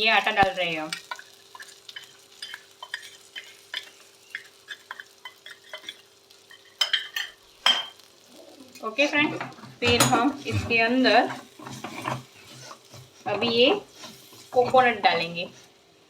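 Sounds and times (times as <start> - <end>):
utensil scraping in a pan: 0.4 - 15.8.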